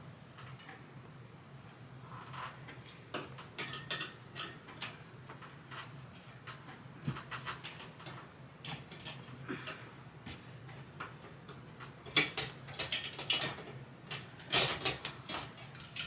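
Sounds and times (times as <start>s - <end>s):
small metal clicks and rattles: 0.4s - 0.8s, 2.2s - 9.8s, 10.6s - 16.0s.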